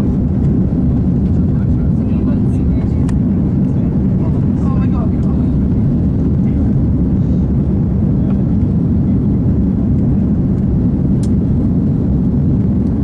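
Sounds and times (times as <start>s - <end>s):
jet engines rumbling in cabin: 0.0s - 13.0s
rushing air: 0.0s - 13.0s.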